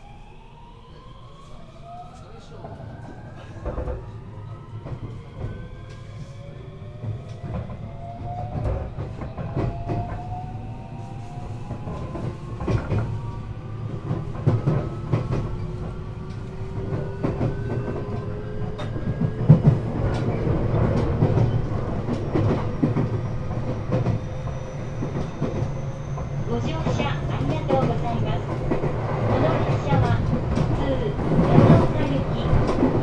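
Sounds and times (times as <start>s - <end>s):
low train running rumble: 0.0s - 33.0s.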